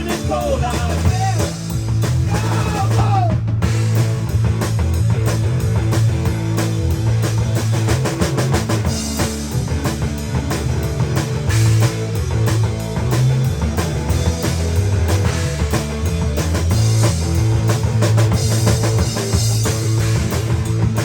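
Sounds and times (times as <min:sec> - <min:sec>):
drum kit beat: 0:00.0 - 0:21.0
rock band playing: 0:00.0 - 0:21.0.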